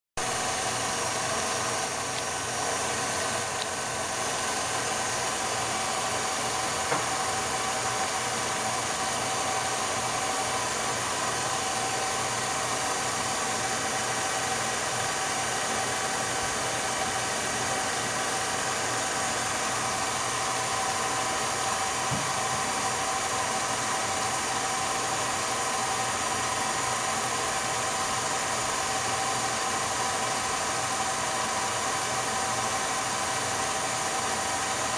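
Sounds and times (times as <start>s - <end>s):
film projector running: 0.2s - 34.9s.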